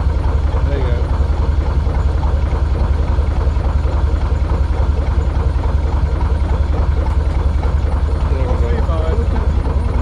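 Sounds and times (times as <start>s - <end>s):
boat diesel engine idling: 0.0s - 10.0s.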